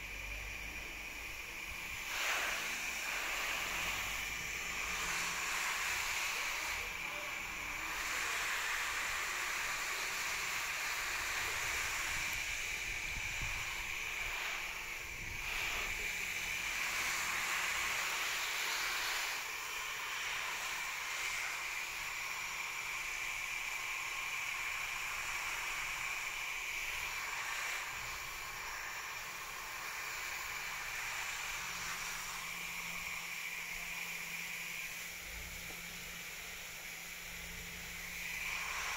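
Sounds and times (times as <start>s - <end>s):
hose spray hissing onto plants: 1.8s - 38.9s.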